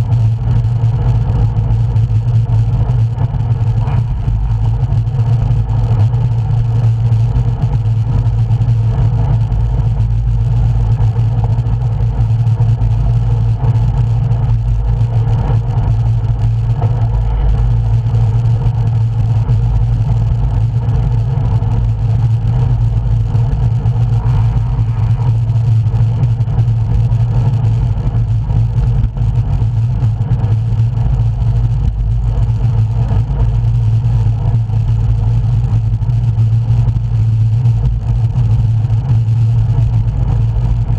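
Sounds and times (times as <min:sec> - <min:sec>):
bike riding road noise: 0:00.0 - 0:40.9
wind rumble on microphone: 0:00.0 - 0:40.9.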